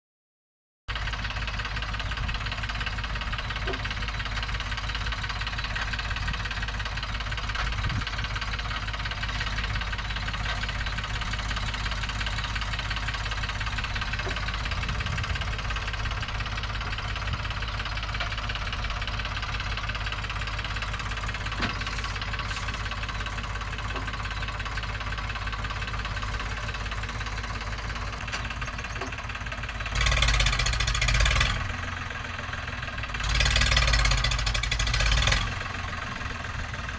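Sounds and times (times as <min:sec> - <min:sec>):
diesel engine running: 0:00.9 - 0:36.9.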